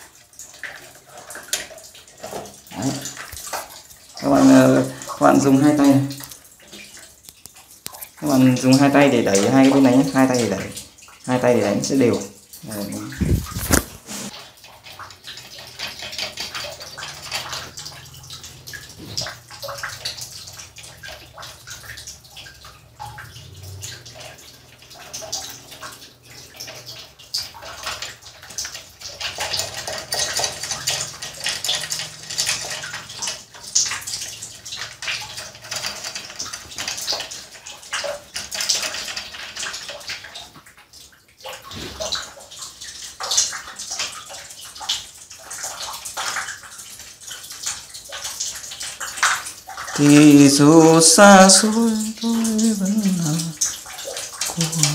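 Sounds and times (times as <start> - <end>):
water running and splashing: 0.0 - 54.9.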